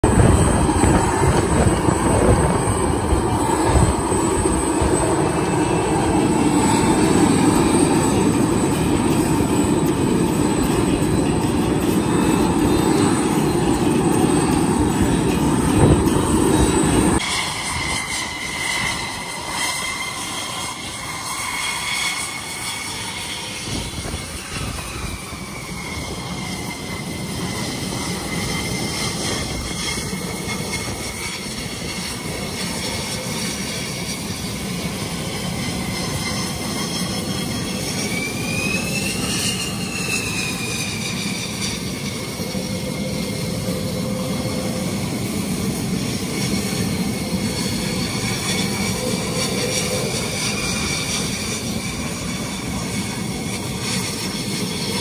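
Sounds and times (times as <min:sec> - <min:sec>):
jet engines running: 0:00.0 - 0:55.0
taxiing jet whistle: 0:00.0 - 0:55.0.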